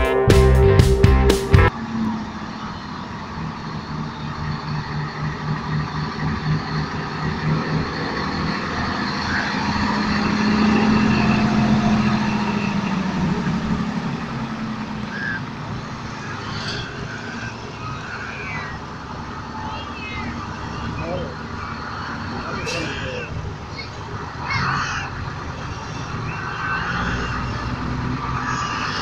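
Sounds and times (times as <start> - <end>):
diesel truck engine passing: 1.5 - 29.0.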